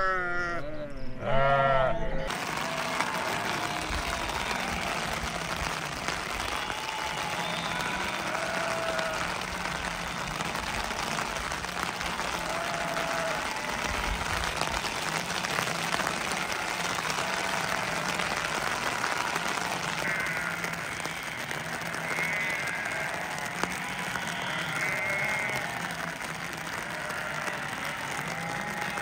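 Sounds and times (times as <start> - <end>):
steady rain hissing: 2.3 - 29.0.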